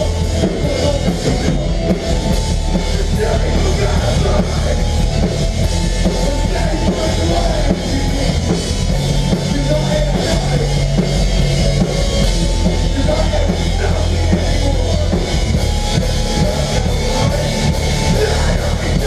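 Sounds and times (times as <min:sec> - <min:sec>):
heavy low bass: 0:00.0 - 0:19.0
loud drum kit: 0:00.0 - 0:19.0.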